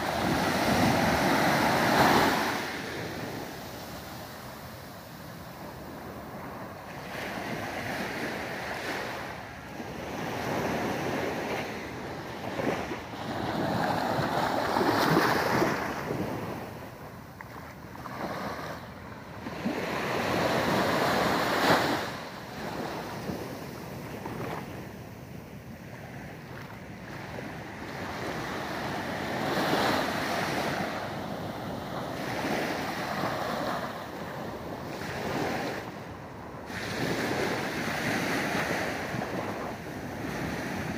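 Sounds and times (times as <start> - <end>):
waves washing up a beach: 0.0 - 40.9.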